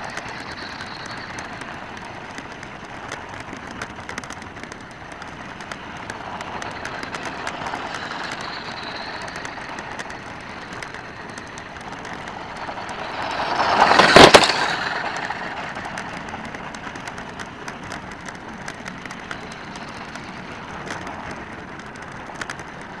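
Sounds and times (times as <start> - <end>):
toy truck electric motor: 0.0 - 23.0
tyres crunching over gravel: 0.1 - 23.0.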